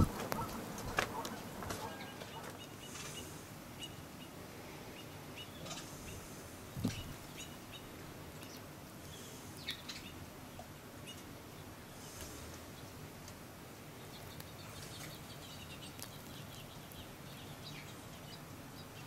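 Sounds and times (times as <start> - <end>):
small birds chirping: 0.0 - 19.0
steady background hiss: 0.0 - 19.0.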